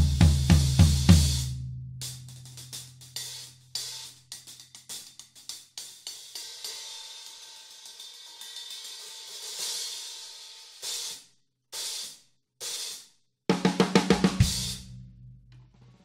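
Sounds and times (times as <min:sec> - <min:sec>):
drum and cymbal strokes: 0:00.0 - 0:11.2, 0:11.8 - 0:14.9
stick strokes on hi-hat: 0:00.0 - 0:13.1.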